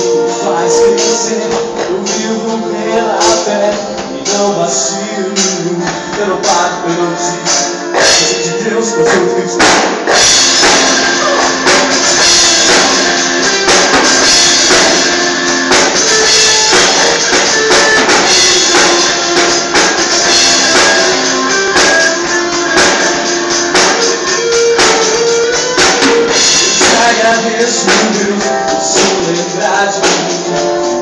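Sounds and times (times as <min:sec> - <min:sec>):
drums: 0:00.0 - 0:31.0
guitar: 0:00.0 - 0:31.0
sustained instrumental melody: 0:00.0 - 0:31.0.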